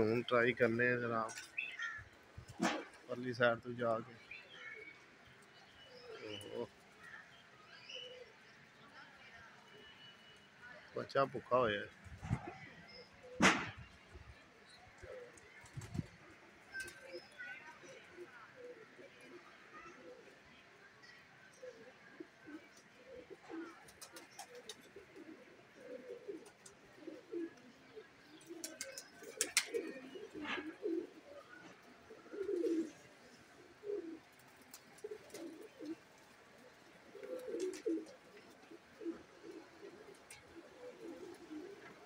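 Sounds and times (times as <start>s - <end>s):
pigeons cooing: 0.0s - 4.0s, 4.6s - 8.5s, 11.6s - 14.0s, 14.6s - 20.5s, 21.3s - 42.0s.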